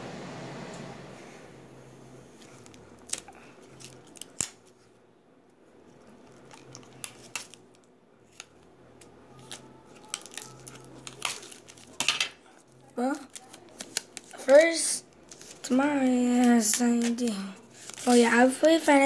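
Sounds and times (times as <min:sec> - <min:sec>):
faint room hiss: 0:00.0 - 0:19.0.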